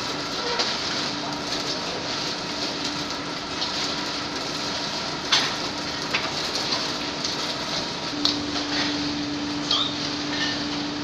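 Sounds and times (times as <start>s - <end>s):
packing machine humming and hissing: 0.0s - 11.0s.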